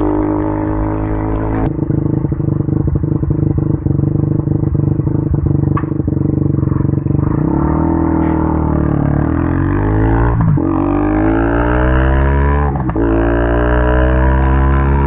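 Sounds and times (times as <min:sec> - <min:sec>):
motorcycle engine running: 0:00.0 - 0:15.0
motorcycle pulling away: 0:00.0 - 0:15.0.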